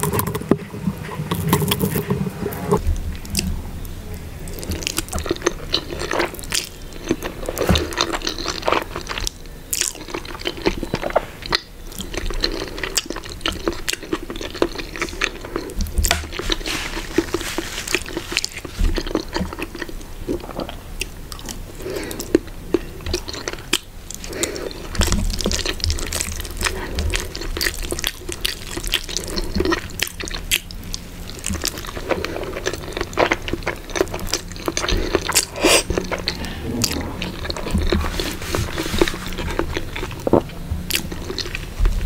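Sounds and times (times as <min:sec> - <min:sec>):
wet chewing and mouth smacks: 0:00.0 - 0:03.5, 0:04.5 - 0:42.0.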